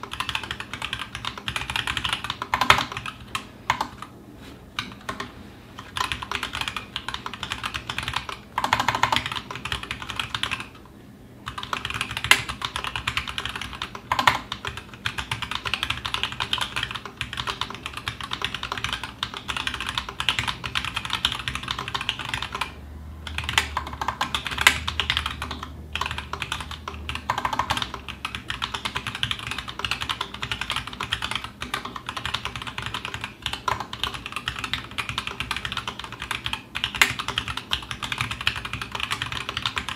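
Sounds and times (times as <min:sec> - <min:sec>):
fast mechanical keyboard typing: 0:00.0 - 0:04.1, 0:04.8 - 0:10.8, 0:11.4 - 0:39.9.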